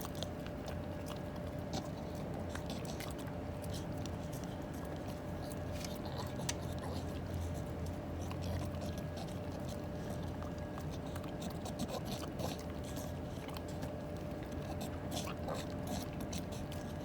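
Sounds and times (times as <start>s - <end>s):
animal chewing crunchy snacks: 0.0s - 17.0s
faint steady hum: 0.0s - 17.0s.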